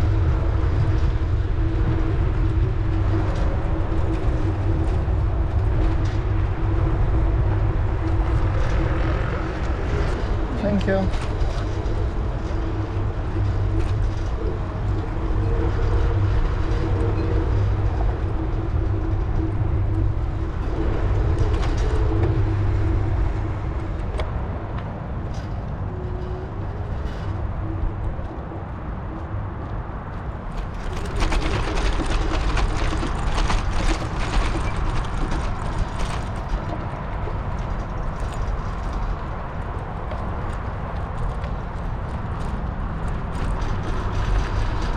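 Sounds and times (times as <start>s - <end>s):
wind rumbling on microphone: 0.0s - 44.9s.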